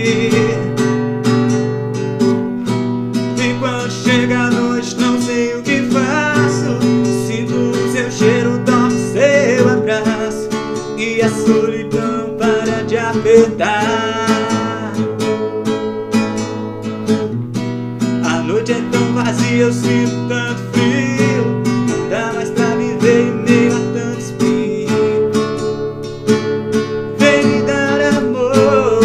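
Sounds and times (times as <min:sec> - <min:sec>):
strummed acoustic guitar: 0:00.0 - 0:29.0.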